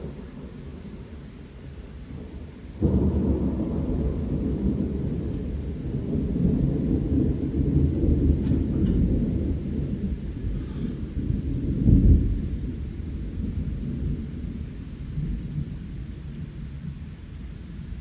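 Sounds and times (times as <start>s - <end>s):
rain falling: 0.0s - 18.0s
thunder rumbling: 0.0s - 18.0s.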